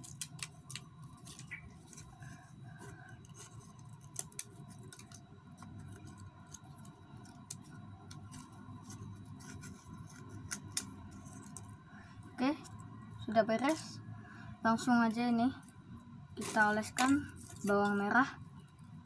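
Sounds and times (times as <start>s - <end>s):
low steady background hum: 0.0s - 19.0s.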